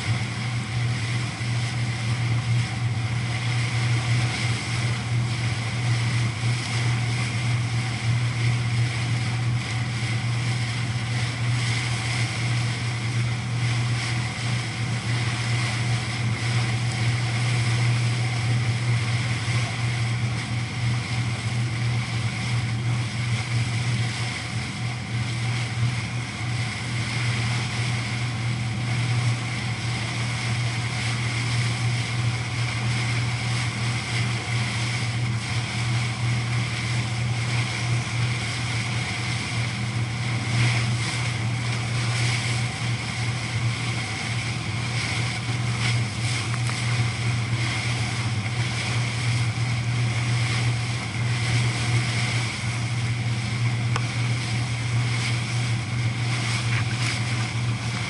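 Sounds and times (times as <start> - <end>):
boat engine droning: 0.0 - 58.0
water washing along hull: 0.0 - 58.0.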